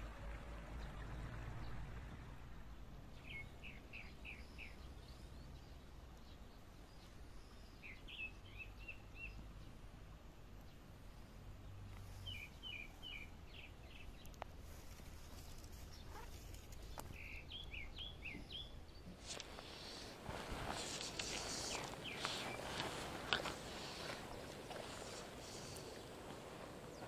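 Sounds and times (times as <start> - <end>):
faint outdoor background noise: 0.0 - 27.0
songbird chirping: 0.6 - 27.0.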